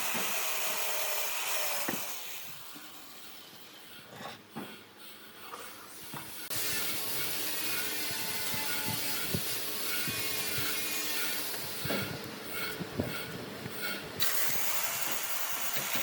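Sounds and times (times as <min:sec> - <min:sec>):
woodworking power tool hissing: 0:00.0 - 0:16.0.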